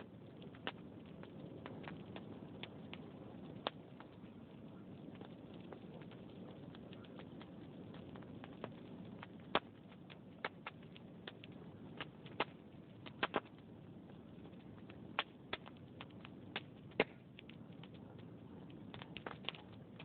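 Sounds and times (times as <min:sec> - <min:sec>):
burning logs rushing: 0:00.0 - 0:20.0
wood fire crackling and popping: 0:00.0 - 0:20.0.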